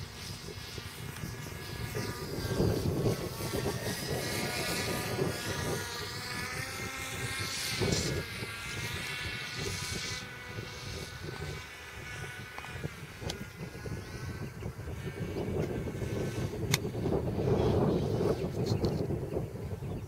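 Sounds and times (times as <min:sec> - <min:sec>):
motor and propeller whine: 0:00.0 - 0:20.0
wind rumbling on microphone: 0:00.0 - 0:20.0.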